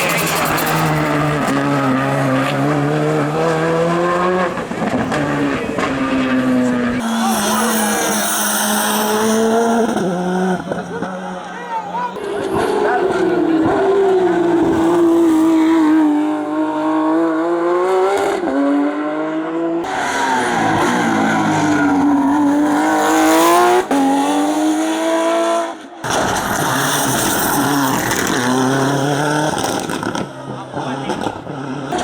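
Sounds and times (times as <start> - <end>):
racing car engines accelerating: 0.0 - 32.0.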